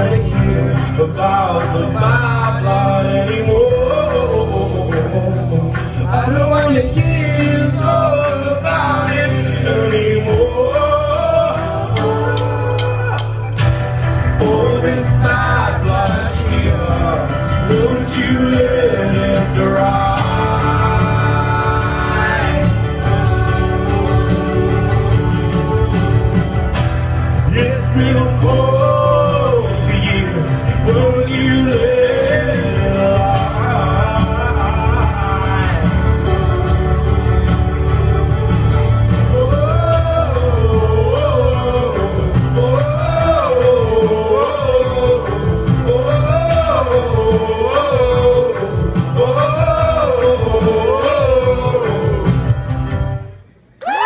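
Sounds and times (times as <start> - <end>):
man singing: 0.0 - 52.8
low bass notes: 0.0 - 53.5
acoustic guitar: 0.0 - 54.0
drums: 0.0 - 54.0
keyboards: 0.0 - 54.0.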